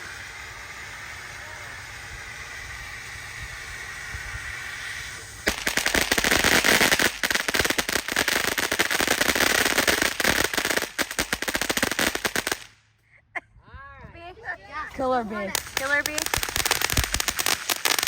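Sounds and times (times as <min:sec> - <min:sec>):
firework hissing: 0:00.0 - 0:12.8, 0:15.0 - 0:18.0
firecrackers cracking: 0:00.0 - 0:12.9, 0:15.3 - 0:18.0.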